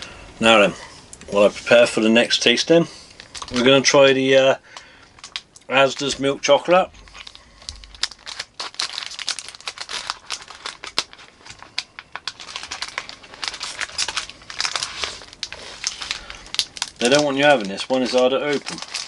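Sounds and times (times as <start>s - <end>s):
wrapper crinkling: 2.4s - 4.0s, 4.7s - 19.0s.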